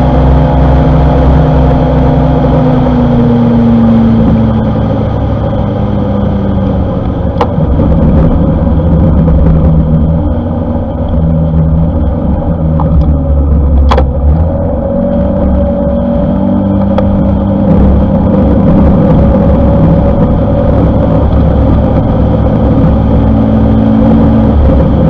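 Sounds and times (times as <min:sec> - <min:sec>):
wind and road noise: 0:00.0 - 0:25.0.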